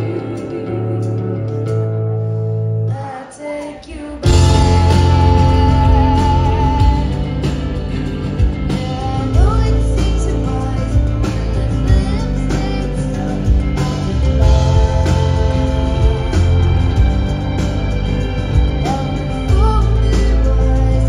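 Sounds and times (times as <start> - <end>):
woman singing: 0.0 - 1.6, 2.8 - 7.6, 8.6 - 17.5, 18.7 - 21.0
live rock band playing: 0.0 - 2.6, 4.2 - 21.0.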